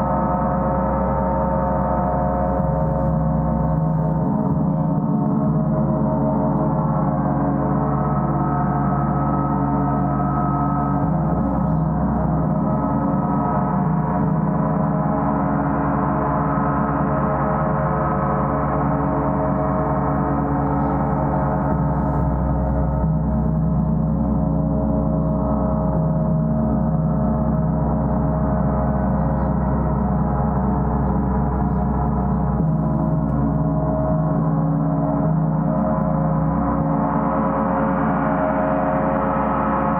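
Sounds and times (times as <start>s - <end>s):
gong ringing wash: 0.0s - 39.9s.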